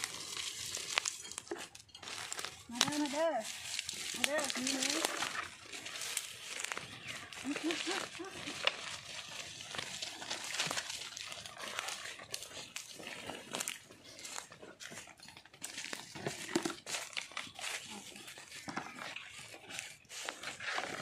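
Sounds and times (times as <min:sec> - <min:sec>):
footsteps crunching through dry leaves: 0:00.0 - 0:21.0
twigs crackling underfoot: 0:00.0 - 0:21.0.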